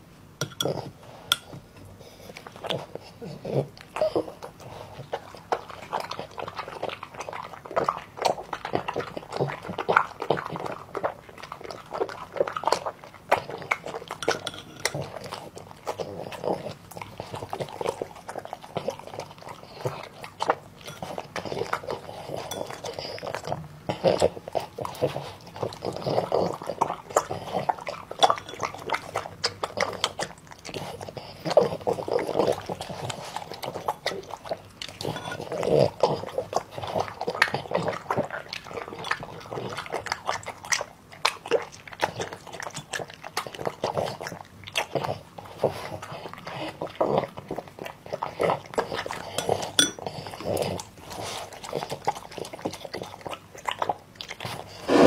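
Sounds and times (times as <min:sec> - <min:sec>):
dog chewing and slurping: 0:00.0 - 0:55.0.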